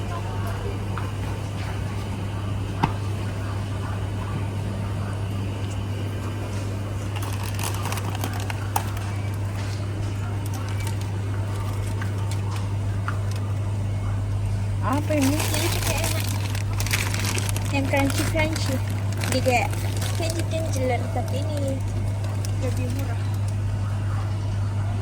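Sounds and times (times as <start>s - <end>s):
background chatter: 0.0s - 25.0s
low electrical hum: 0.0s - 25.0s.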